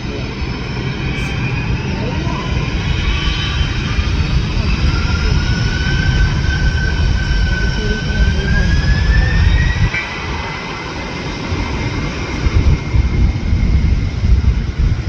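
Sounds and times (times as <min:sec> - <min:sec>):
heavy low rumble: 0:00.0 - 0:15.0
jet engines whining: 0:00.0 - 0:15.0.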